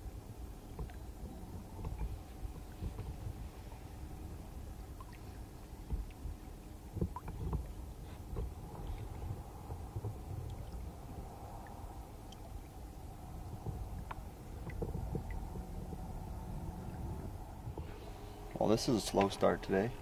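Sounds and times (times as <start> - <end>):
faint steady hum: 0.0 - 20.0
water lapping against boat hull: 0.0 - 20.0.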